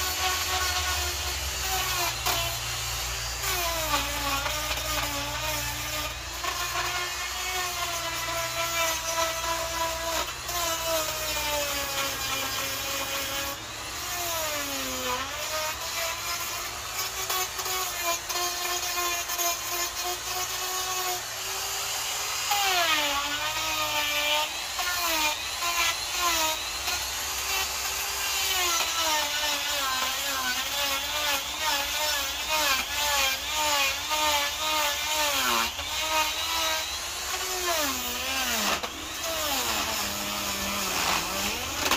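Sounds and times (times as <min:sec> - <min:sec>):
die grinder cutting wood: 0:00.0 - 0:41.9.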